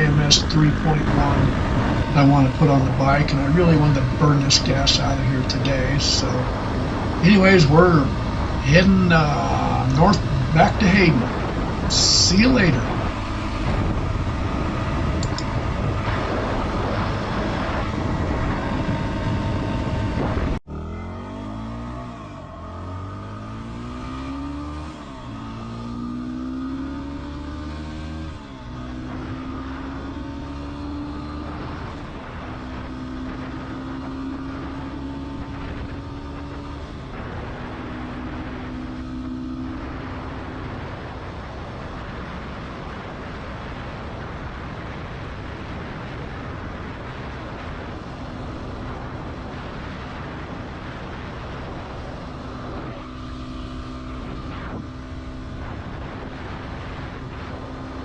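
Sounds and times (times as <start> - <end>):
constant rush of noise: 0.0 - 58.0
motorcycle engine accelerating: 0.0 - 58.0.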